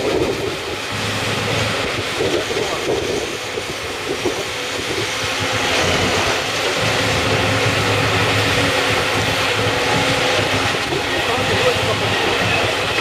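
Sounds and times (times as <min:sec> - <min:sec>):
conveyor running: 0:00.0 - 0:13.0
excavator engine: 0:00.0 - 0:13.0
tyre shredding machine running: 0:00.0 - 0:13.0.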